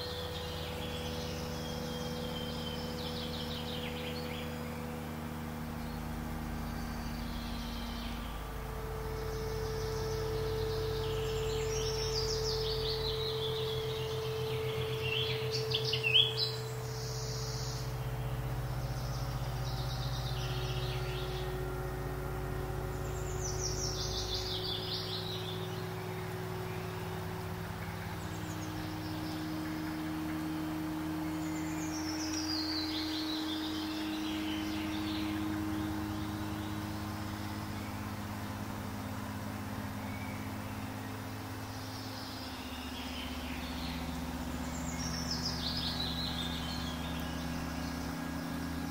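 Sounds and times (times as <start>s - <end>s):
bird calls in descending trills: 0.0s - 48.9s
low sustained drone: 0.0s - 48.9s.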